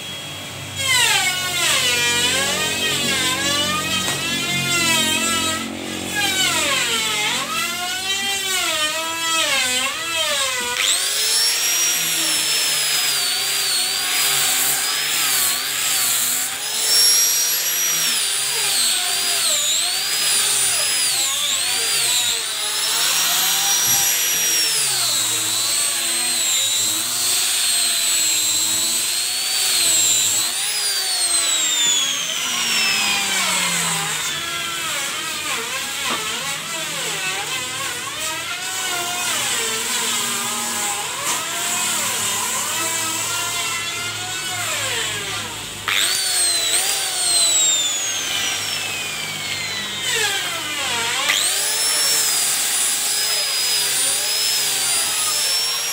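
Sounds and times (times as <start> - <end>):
hand grinder sanding wood: 0.8 - 55.9.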